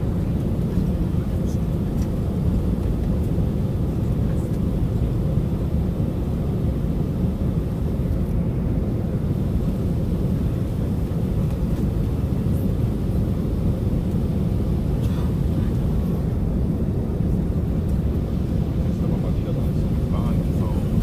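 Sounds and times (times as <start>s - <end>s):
jet engines rumbling in cabin: 0.0s - 21.0s.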